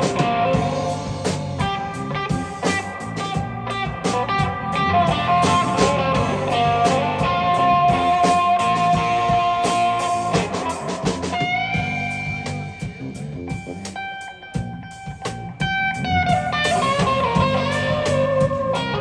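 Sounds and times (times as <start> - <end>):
bass guitar: 0.0 - 19.0
drums: 0.0 - 19.0
electric guitar lead: 0.0 - 19.0.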